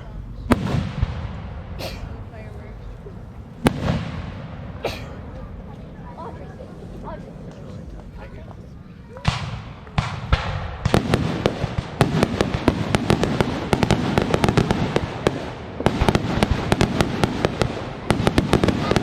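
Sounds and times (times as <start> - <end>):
fireworks crackling pops: 0.0 - 6.0, 6.8 - 19.0
fireworks bangs: 0.0 - 19.0.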